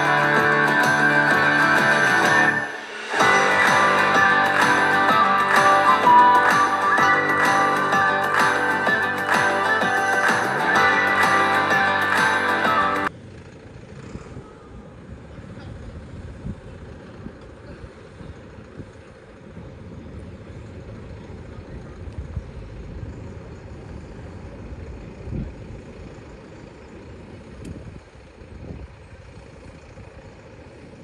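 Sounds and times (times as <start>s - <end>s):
tractor engines rumbling: 0.0s - 31.0s.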